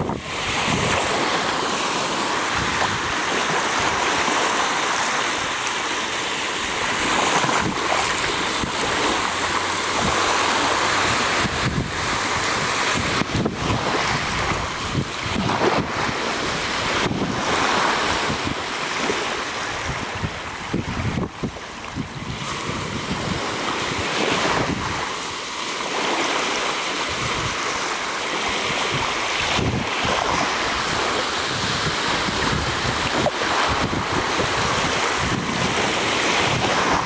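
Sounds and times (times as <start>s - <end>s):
wind buffeting microphone: 0.0s - 4.8s, 6.5s - 25.4s, 27.1s - 37.0s
surf breaking on shore: 0.0s - 37.0s.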